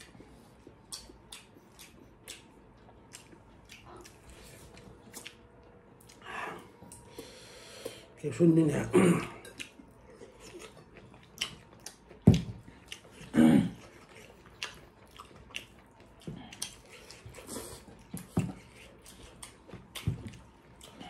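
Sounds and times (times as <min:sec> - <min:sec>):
wet chewing and smacking: 0:00.0 - 0:07.3, 0:09.4 - 0:21.0.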